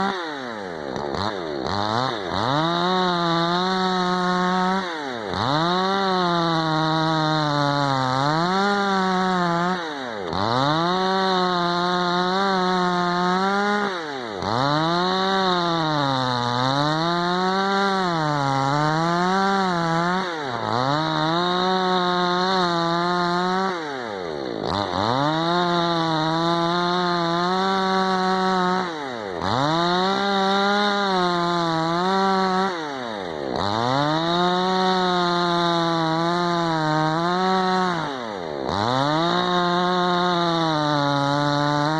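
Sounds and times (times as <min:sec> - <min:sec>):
chainsaw running at high revs: 0:00.0 - 0:41.9.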